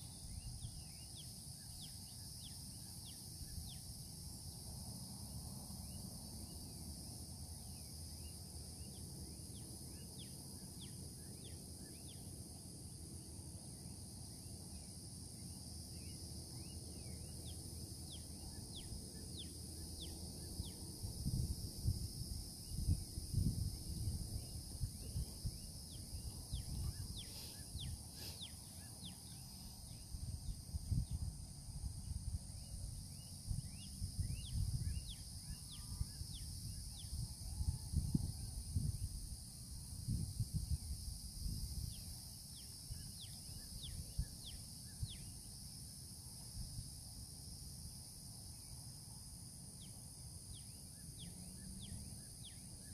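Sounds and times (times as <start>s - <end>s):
insect chorus: 0.0s - 52.9s.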